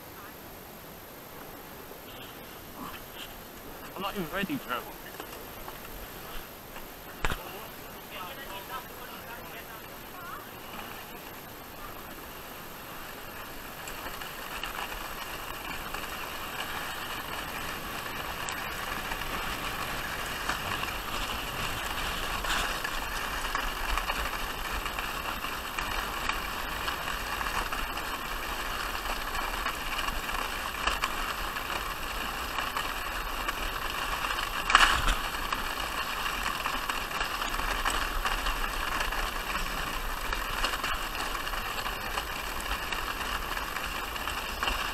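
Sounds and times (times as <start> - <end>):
sledge hissing and scraping on snow: 1.6 - 44.9.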